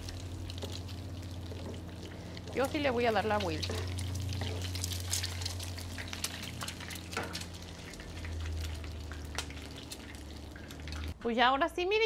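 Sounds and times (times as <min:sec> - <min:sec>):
egg sizzling in oil: 0:00.0 - 0:11.2
oil crackling and popping: 0:00.0 - 0:11.2
steady low hum: 0:00.0 - 0:11.2.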